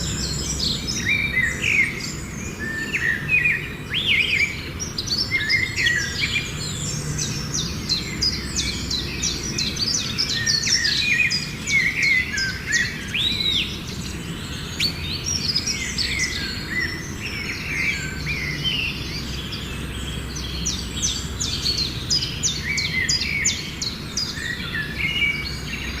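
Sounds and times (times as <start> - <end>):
birds chirping and singing: 0.0 - 26.0.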